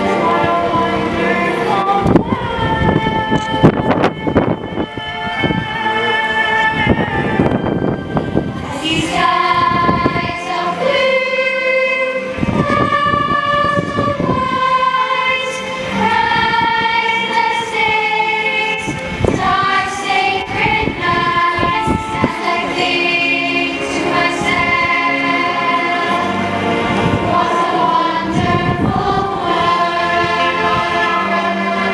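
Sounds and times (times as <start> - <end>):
choir singing: 0.0 - 31.9
musical accompaniment: 0.0 - 31.9.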